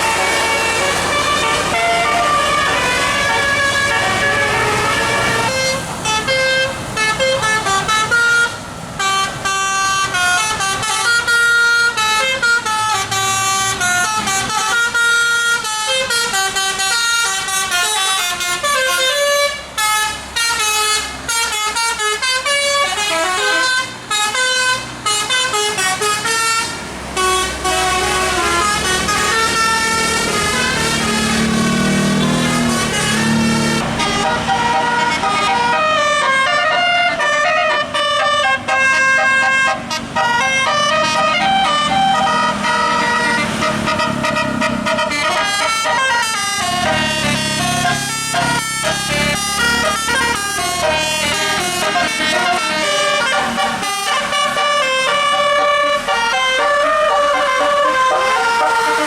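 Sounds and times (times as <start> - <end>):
multi-tone air horn melody: 0.0 - 59.0.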